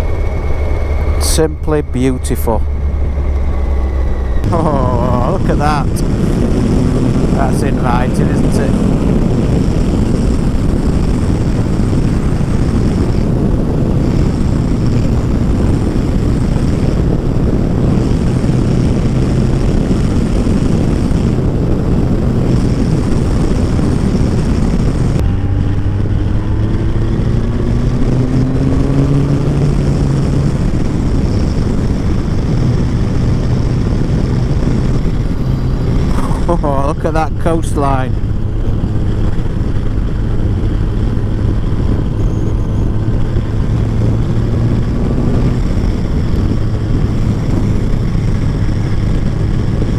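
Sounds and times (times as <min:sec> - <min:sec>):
motorcycle engine drone: 0:00.0 - 0:49.9
wind rushing over microphone: 0:00.0 - 0:49.9.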